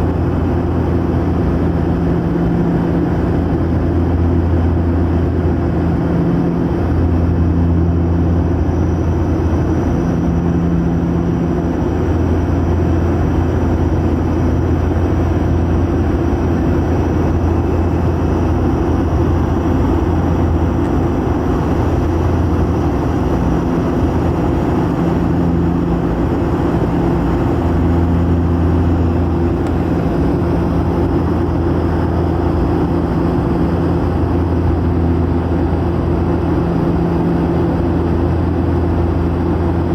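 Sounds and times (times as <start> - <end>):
aeroplane engines droning in cabin: 0.0 - 39.9.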